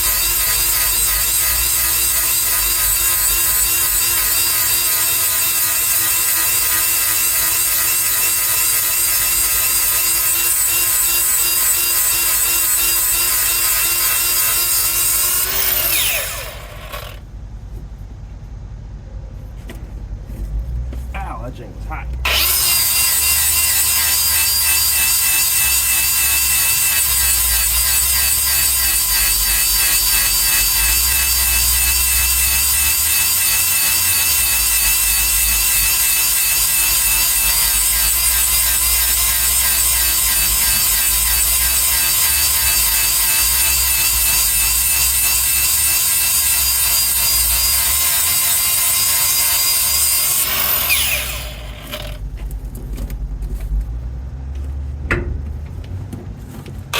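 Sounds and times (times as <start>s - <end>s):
grinder winding down: 0.0s - 17.2s, 22.2s - 52.2s
power grinder grinding steel: 0.0s - 17.2s, 22.3s - 52.2s.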